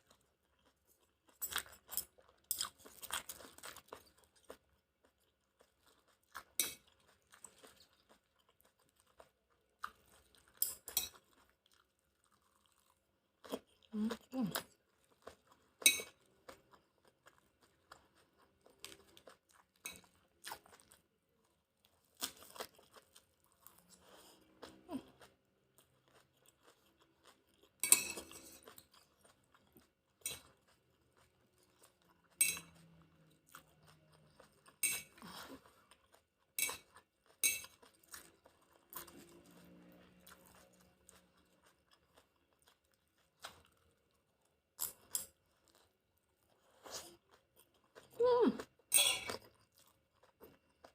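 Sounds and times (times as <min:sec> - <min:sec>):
chewing food: 0:00.0 - 0:50.9.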